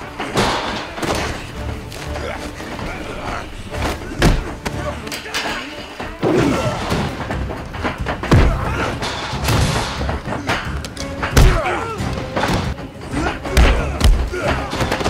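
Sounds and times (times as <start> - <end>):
dense music score: 0.0 - 15.0.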